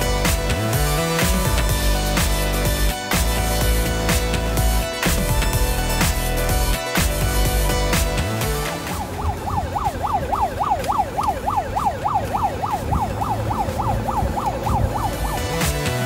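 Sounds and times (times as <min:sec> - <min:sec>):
electronic siren yelping: 0:00.0 - 0:16.0.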